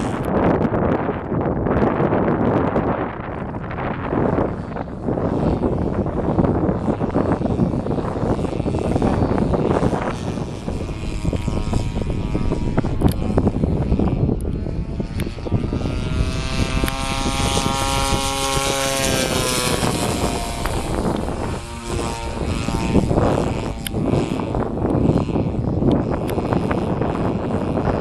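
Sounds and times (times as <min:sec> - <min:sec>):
model plane engine and propeller: 0:00.0 - 0:28.0
wind buffeting microphone: 0:00.0 - 0:28.0.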